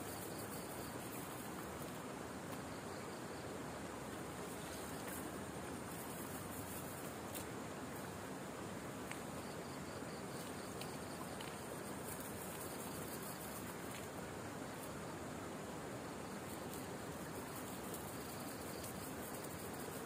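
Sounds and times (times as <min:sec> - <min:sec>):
constant low hiss: 0:00.0 - 0:20.0
night insects chorus: 0:00.0 - 0:20.0.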